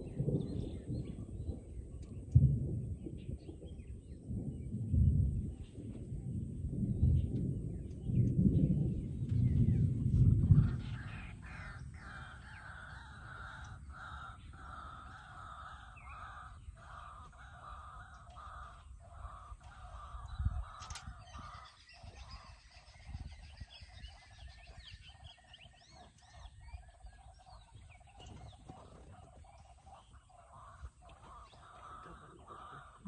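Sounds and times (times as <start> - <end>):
birds chirping and trilling: 0.0 - 33.0
low rumble: 0.0 - 33.0.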